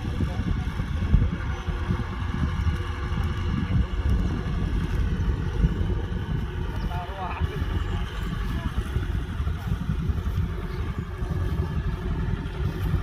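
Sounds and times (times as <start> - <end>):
combine harvester diesel engine droning: 0.0 - 13.0.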